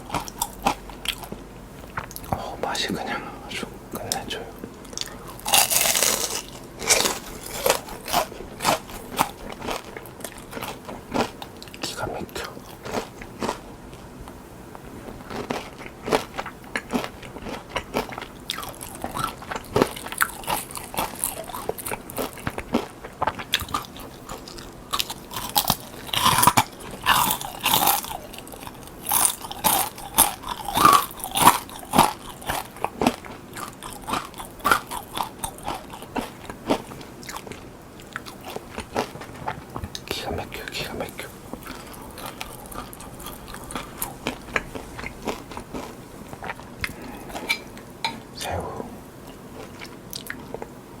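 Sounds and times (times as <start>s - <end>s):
crunchy fried shrimp being chewed: 0.0s - 48.2s, 49.2s - 50.8s.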